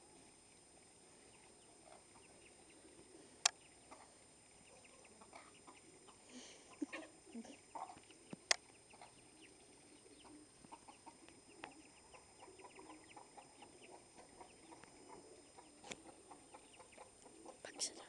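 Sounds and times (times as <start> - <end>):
chickens clucking: 1.4 - 18.0.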